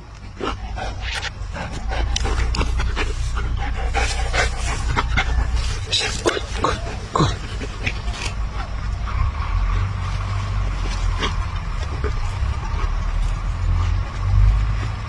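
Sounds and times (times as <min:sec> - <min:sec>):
steady low rumble: 0:00.0 - 0:15.0
dog panting: 0:00.1 - 0:14.3.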